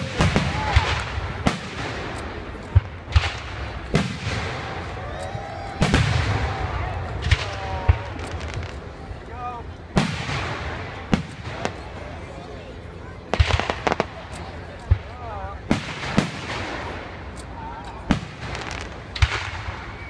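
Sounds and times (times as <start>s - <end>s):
fireworks booming: 0.0s - 5.0s, 5.8s - 9.2s, 9.9s - 12.3s, 13.3s - 14.3s, 14.9s - 17.3s, 18.0s - 20.0s
rolling echo: 0.0s - 20.0s
spectators' voices: 0.0s - 20.0s.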